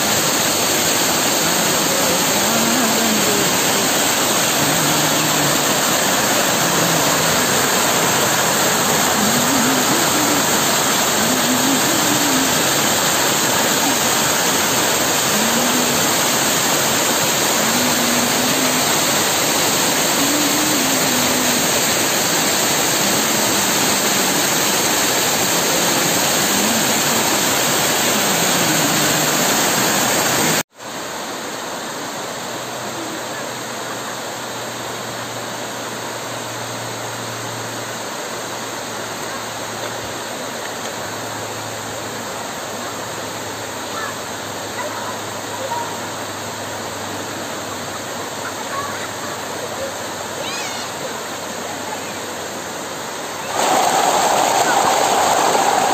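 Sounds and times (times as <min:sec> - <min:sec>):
quieter rush of falling water: 0:00.0 - 0:55.9
waterfall rushing: 0:00.0 - 0:55.9.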